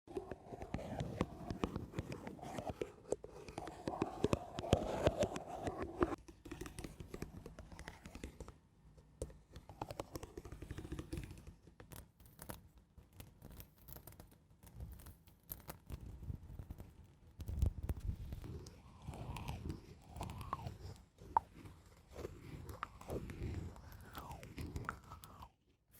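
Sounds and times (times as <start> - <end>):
scratching and scraping: 0.1 - 8.5, 9.2 - 25.6.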